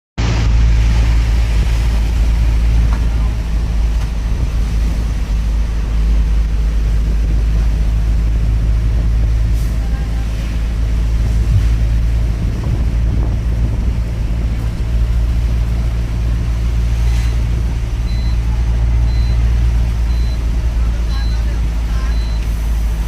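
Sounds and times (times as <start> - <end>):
bus engine and road rumble: 0.2 - 23.0.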